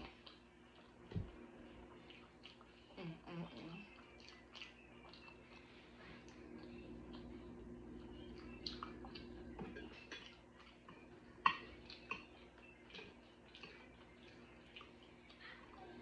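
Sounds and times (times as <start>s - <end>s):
chewing with wet clicks: 0.0s - 16.0s.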